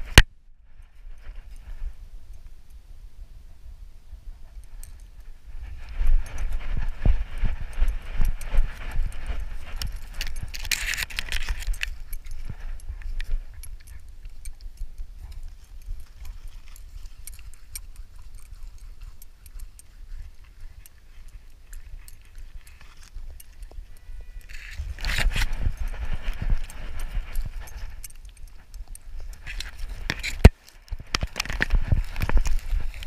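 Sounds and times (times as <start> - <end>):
rustling through grass: 4.4 - 14.4, 15.2 - 33.0
camera harness jangling and clicking: 4.5 - 33.0.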